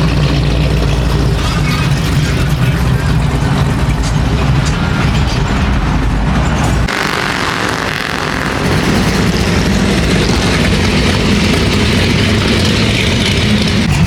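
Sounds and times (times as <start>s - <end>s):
car engine rumble: 0.0s - 14.0s
hissing road noise: 0.0s - 14.0s.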